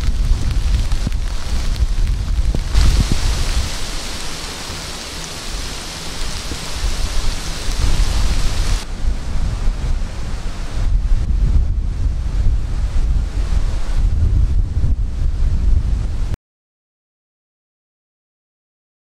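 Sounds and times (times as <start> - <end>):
steady rain hiss: 0.0 - 16.4
wind rumbling on microphone: 0.0 - 16.4.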